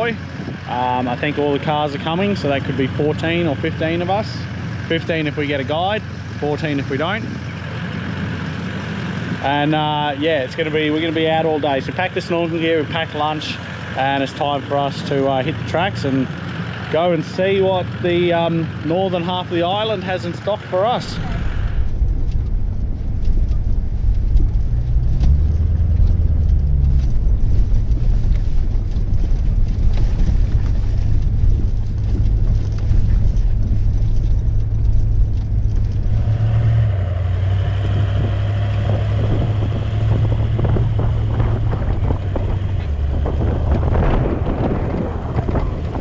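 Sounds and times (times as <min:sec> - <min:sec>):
wind buffeting microphone: 0:00.0 - 0:13.4, 0:21.1 - 0:46.0
vehicle engine and tyre rumble: 0:00.0 - 0:46.0.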